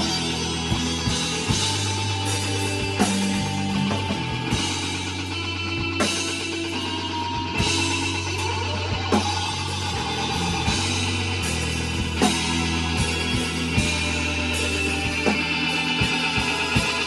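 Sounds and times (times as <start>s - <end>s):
bass notes: 0.0s - 17.0s
drum kit hits: 0.0s - 17.0s
rock band playing live: 0.0s - 17.0s.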